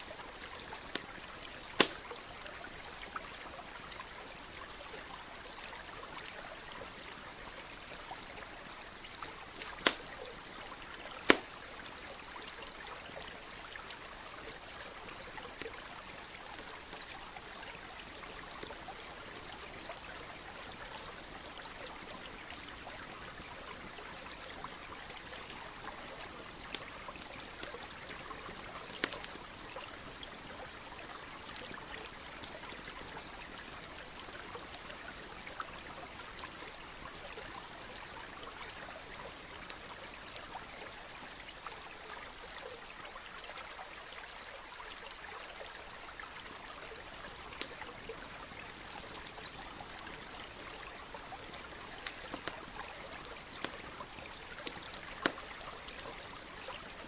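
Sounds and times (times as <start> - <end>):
campfire crackling and popping: 0.0 - 43.6, 45.8 - 57.0
stream trickling: 0.0 - 57.0.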